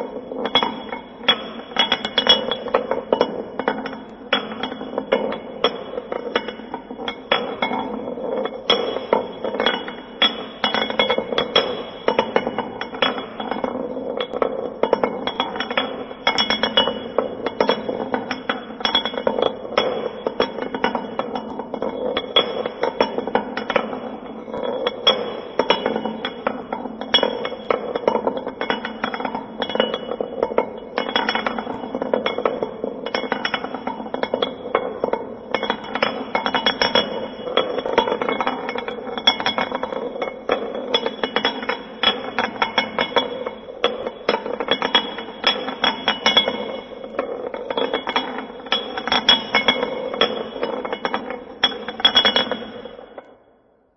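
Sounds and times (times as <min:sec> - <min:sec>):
steady ringing metal tone: 0:00.0 - 0:53.6.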